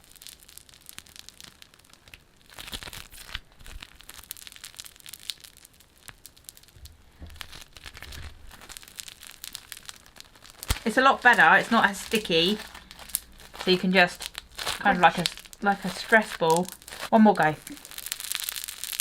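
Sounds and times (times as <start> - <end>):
bubbly slime squeezed and popping: 0.0 - 19.0.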